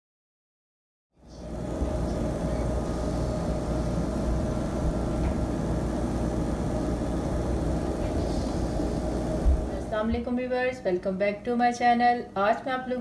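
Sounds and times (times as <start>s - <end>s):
mechanical hum: 1.2s - 13.0s.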